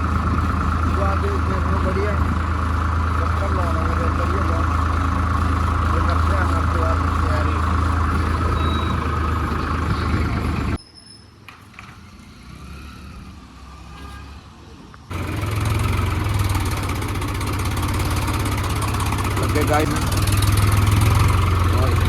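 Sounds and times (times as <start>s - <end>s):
tractor diesel engine running: 0.0s - 10.8s, 15.1s - 22.0s.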